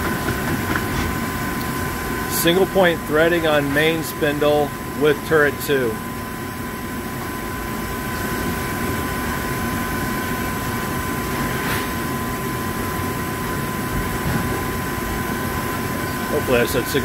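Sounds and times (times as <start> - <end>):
lathe humming with high whine: 0.0 - 17.0.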